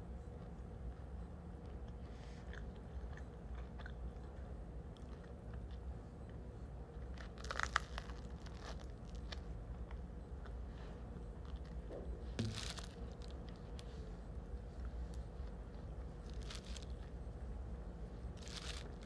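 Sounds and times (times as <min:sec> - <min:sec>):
low room hum: 0:00.0 - 0:19.0
person chewing bread: 0:00.2 - 0:19.0
crusty bread crunching: 0:01.6 - 0:19.0.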